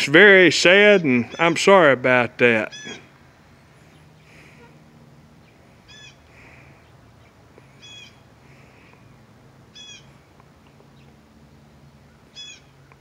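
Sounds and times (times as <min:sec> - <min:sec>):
bird calling: 0:01.0 - 0:01.6, 0:02.6 - 0:13.0.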